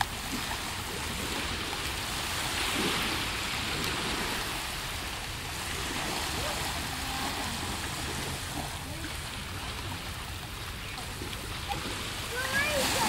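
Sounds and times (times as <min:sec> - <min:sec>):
small waves on pebbly beach: 0:00.0 - 0:13.0.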